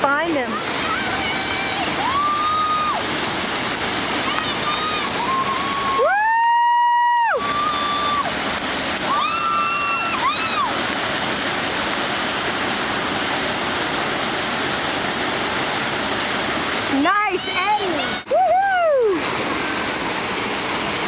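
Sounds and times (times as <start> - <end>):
whitewater rushing: 0.0 - 21.0.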